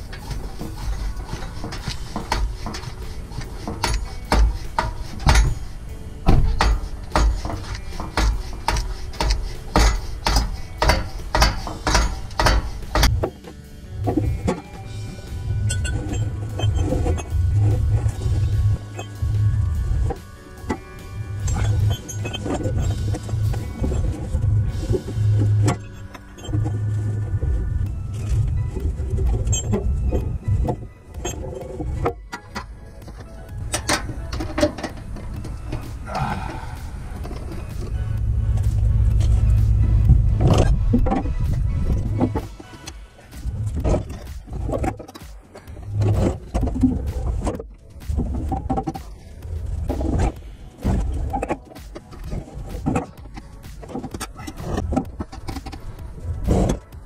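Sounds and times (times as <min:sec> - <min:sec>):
exhaust system rattling and knocking: 0:00.0 - 0:57.0
music with pulsing low beat: 0:00.0 - 0:57.0.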